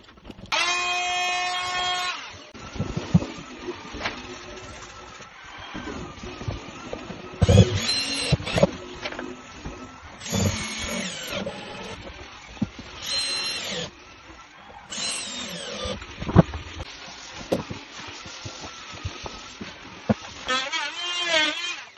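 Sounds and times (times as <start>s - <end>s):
handheld power tool motor: 0.5s - 21.9s.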